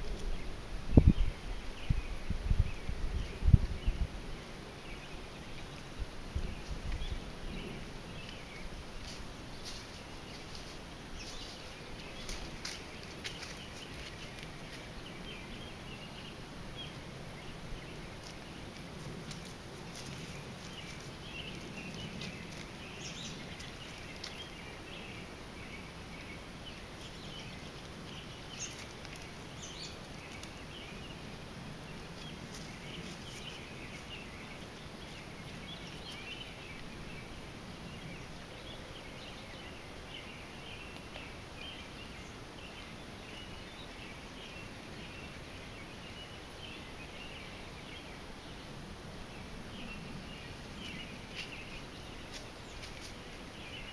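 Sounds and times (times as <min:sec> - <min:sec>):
steady low hiss: 0:00.0 - 0:53.9.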